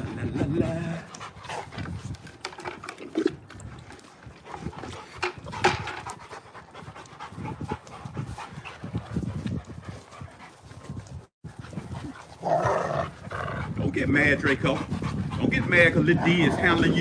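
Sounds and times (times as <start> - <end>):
dog panting: 0.0 - 2.8, 3.6 - 17.0.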